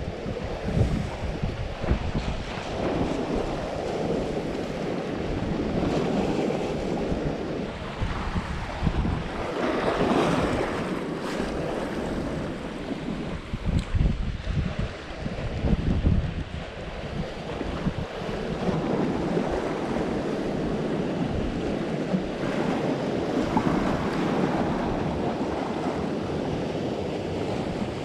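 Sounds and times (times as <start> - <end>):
sea waves washing: 0.0 - 28.0
wind buffeting microphone: 0.0 - 28.0.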